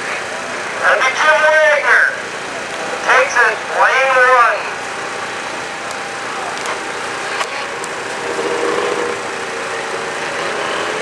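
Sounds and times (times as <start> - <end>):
distant snowmobile engines: 0.0 - 11.0
steady outdoor hum: 0.0 - 11.0.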